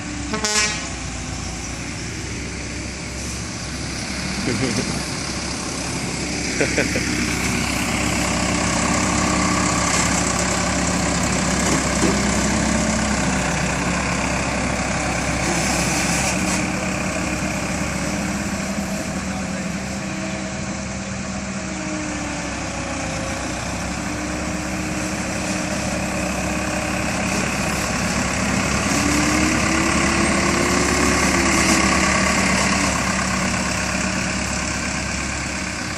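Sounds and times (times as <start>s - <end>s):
diesel machinery droning: 0.0s - 35.9s.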